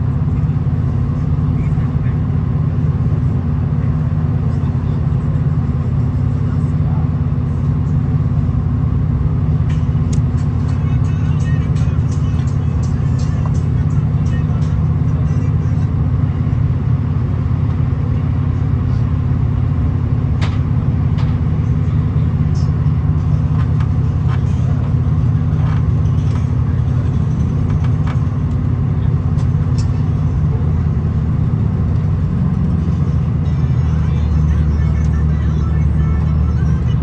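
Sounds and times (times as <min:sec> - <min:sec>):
railcar interior rumble: 0:00.0 - 0:37.0.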